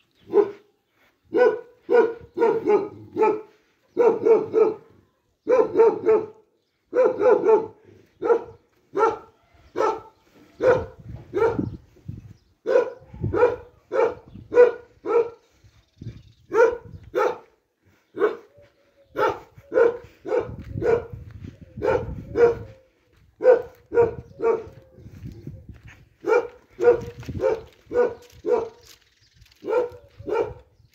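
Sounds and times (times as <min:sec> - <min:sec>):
dog barking: 0:00.2 - 0:00.7, 0:01.3 - 0:11.8, 0:12.6 - 0:15.5, 0:16.5 - 0:22.8, 0:23.4 - 0:25.1, 0:26.2 - 0:28.8, 0:29.6 - 0:30.7.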